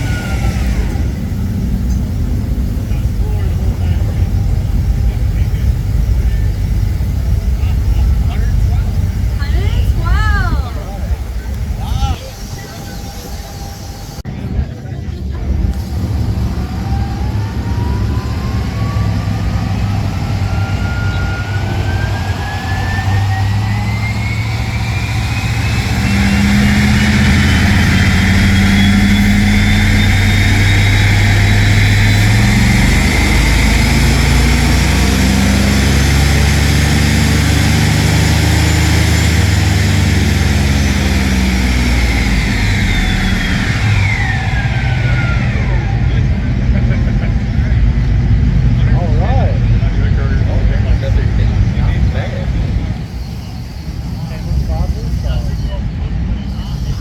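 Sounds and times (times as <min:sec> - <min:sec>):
engine revving on dyno rollers: 0:00.0 - 0:57.0.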